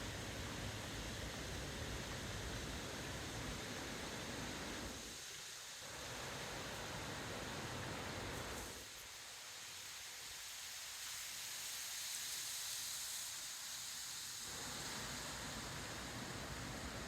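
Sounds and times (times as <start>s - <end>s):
high hiss of wind: 0.0s - 17.0s.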